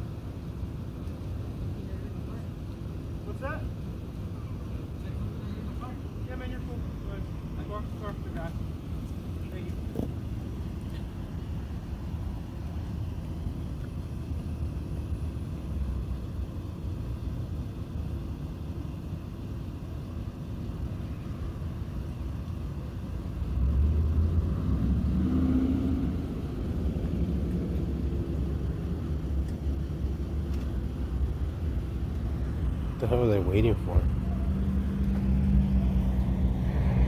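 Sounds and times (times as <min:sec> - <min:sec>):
motor vehicles rumbling: 0:00.0 - 0:37.0.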